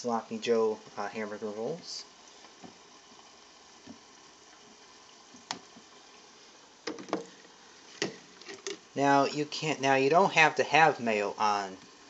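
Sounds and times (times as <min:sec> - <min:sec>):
meat simmering in a frying pan: 0:00.0 - 0:12.0.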